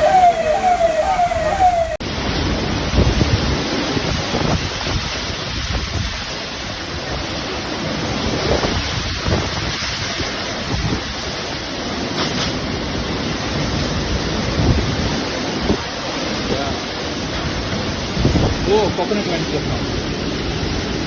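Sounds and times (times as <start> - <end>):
wind buffeting microphone: 0.0 - 19.0
heavy rain rushing: 0.0 - 21.0.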